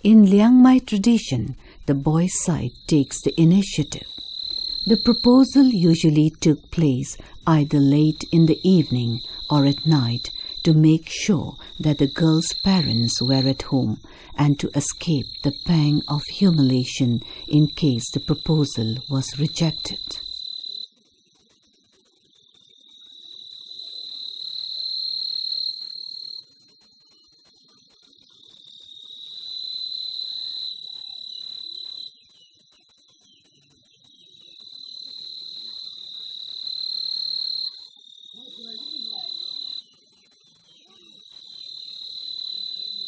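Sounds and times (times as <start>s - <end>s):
night insects trilling: 1.5s - 43.0s.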